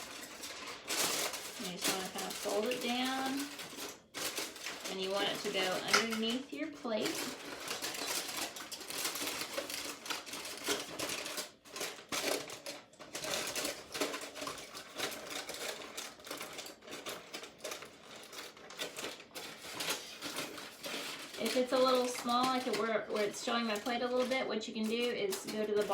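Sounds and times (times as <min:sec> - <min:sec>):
aluminum foil crinkling: 0:00.0 - 0:25.9.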